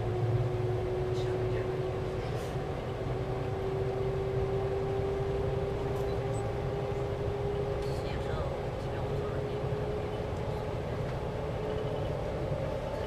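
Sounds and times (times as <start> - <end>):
rising tone of train: 0.0 - 13.0
train cabin low rumble: 0.0 - 13.0.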